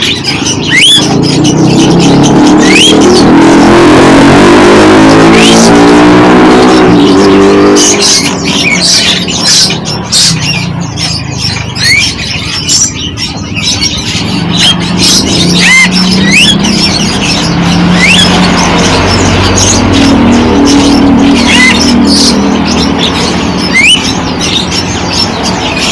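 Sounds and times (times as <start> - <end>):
birds chirping and squawking: 0.0 - 25.9.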